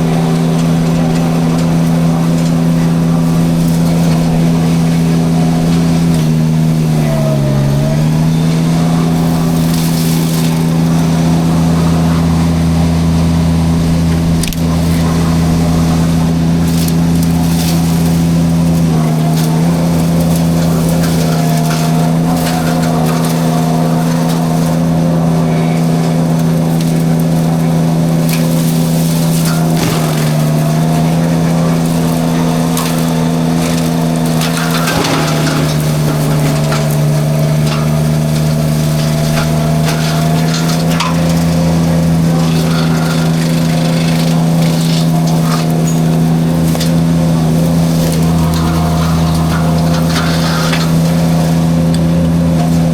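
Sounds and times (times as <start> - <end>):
mulcher shredding brush: 0.0 - 52.9
skid steer engine running: 0.0 - 52.9
wood crackling and snapping: 0.0 - 52.9.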